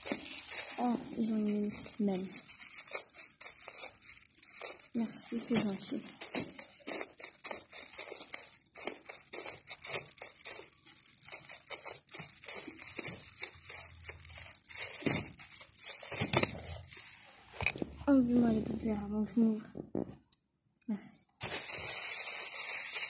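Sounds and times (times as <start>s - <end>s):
plastic glove crinkling: 0.0s - 19.9s, 21.4s - 23.0s.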